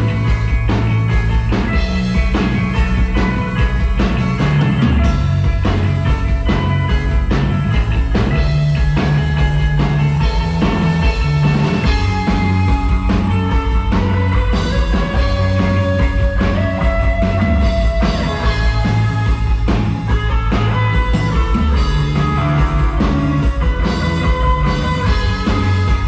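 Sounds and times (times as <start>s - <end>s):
bass line: 0.0s - 26.0s
drums: 0.0s - 26.0s
electric guitar: 0.0s - 26.0s.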